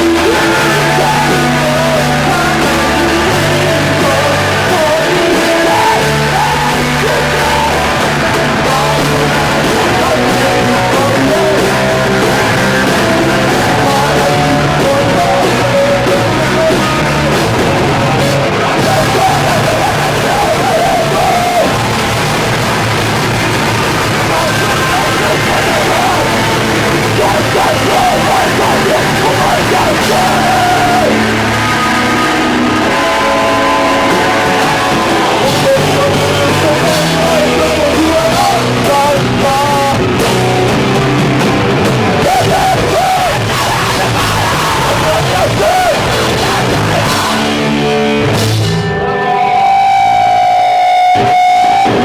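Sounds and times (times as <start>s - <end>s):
person yelling vocals: 0.0s - 22.1s, 24.1s - 40.3s, 42.1s - 47.6s
hardcore punk band playing: 0.0s - 52.0s.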